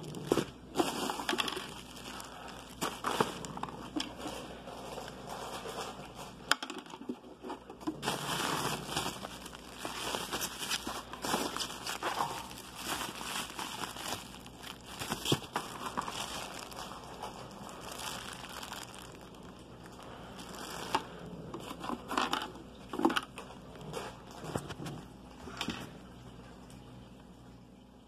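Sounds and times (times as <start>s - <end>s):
plastic packaging crinkling: 0.0s - 24.8s.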